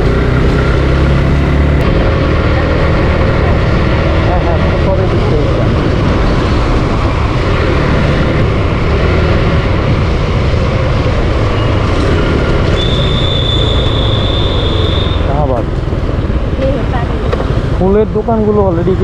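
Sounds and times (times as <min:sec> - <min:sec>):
motorcycle wind rush and running noise: 0:00.0 - 0:19.0.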